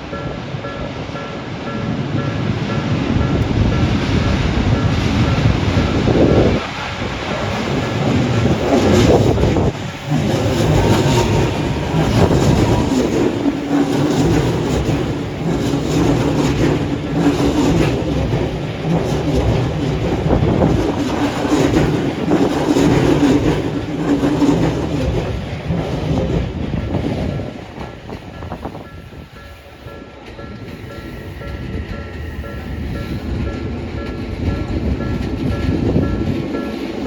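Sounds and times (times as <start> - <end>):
electric train passing: 0.0 - 37.0
wheels clacking over rail joints: 0.0 - 37.0.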